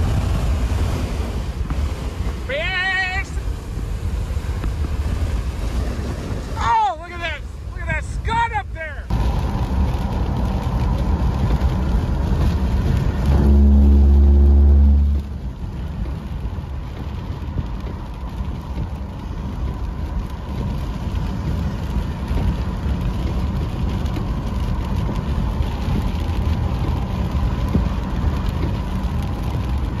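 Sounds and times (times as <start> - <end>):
road and wind noise in car: 0.0 - 30.0.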